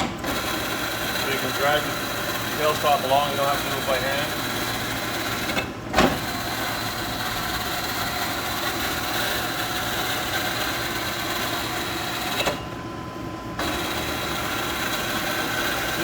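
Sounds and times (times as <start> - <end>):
lathe carriage whirring: 0.0 - 16.0.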